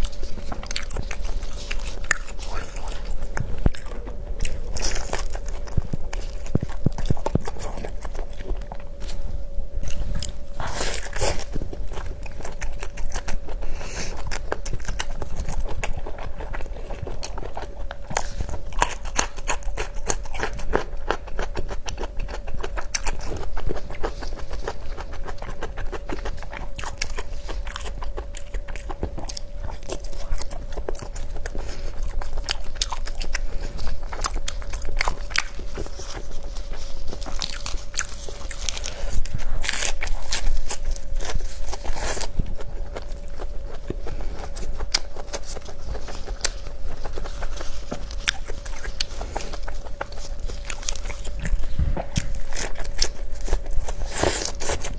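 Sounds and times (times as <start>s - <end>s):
crunching mouth sounds: 0.0s - 54.9s
faint steady hum: 0.0s - 54.9s
person chewing food: 0.0s - 54.9s.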